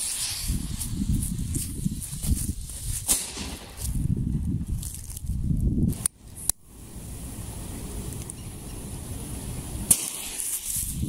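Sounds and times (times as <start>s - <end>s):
wind rumble on microphone: 0.0s - 9.9s, 10.6s - 11.0s
firework fuse hissing: 0.0s - 11.0s.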